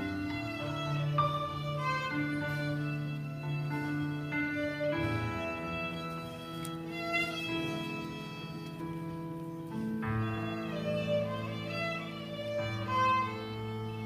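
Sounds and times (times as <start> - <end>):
violin playing held notes: 0.0 - 14.0.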